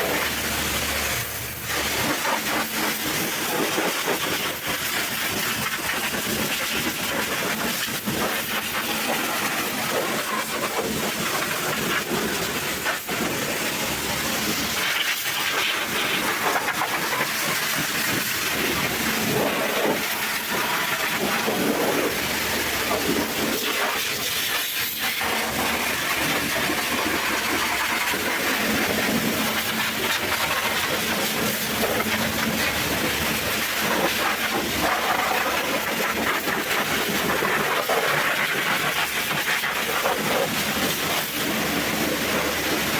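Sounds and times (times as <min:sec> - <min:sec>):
pressure washer spraying: 0:00.0 - 0:42.9.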